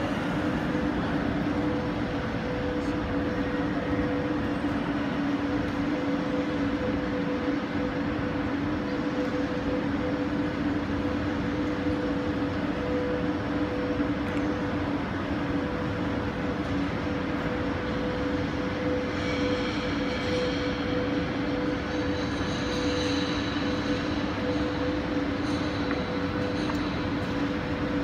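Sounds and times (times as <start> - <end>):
station hall background din: 0.0 - 28.0
two-tone mechanical drone: 0.0 - 28.0.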